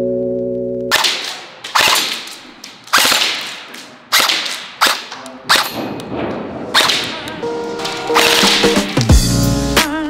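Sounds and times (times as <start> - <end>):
airsoft rifle shots: 0.9 - 9.1.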